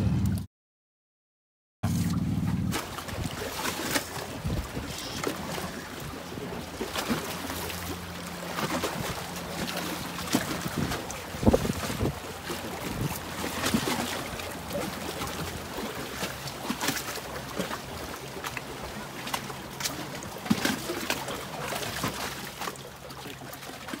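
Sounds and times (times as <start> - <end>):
fish splashing in water: 1.9 - 24.0.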